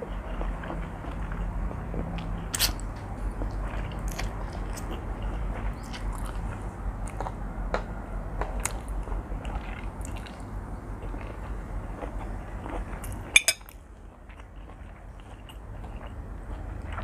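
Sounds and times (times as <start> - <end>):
person chewing noodles: 0.0 - 7.4, 8.6 - 17.0.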